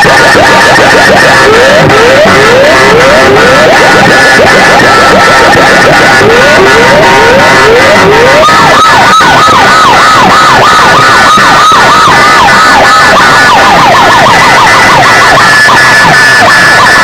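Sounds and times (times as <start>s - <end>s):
distorted siren sound effect: 0.0s - 17.0s.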